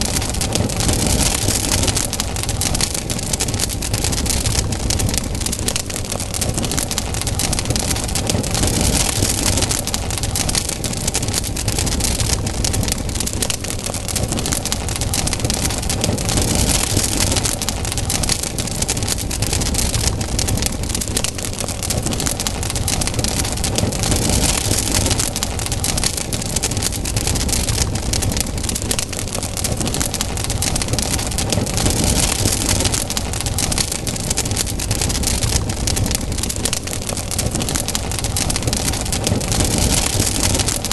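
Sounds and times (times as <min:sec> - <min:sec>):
burning wood crackling and popping: 0:00.0 - 0:40.9
fire hissing: 0:00.0 - 0:40.9.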